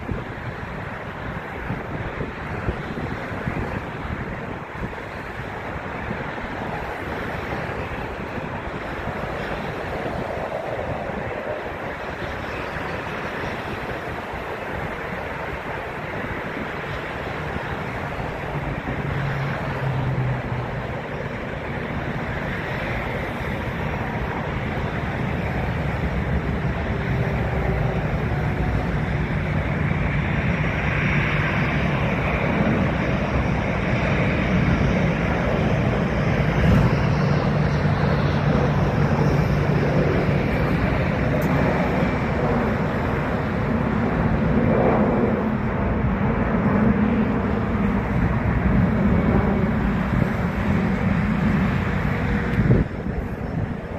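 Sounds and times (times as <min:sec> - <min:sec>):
distant jet engines rushing: 0:00.0 - 0:53.9
wind buffeting microphone: 0:00.0 - 0:53.9.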